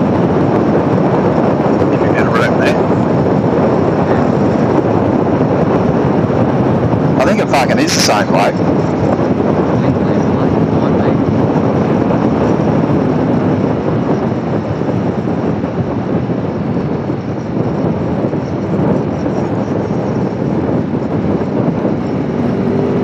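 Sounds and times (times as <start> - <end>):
motorcycle engine running: 0.0 - 7.8, 8.5 - 23.0
wind rushing over microphone: 0.0 - 23.0.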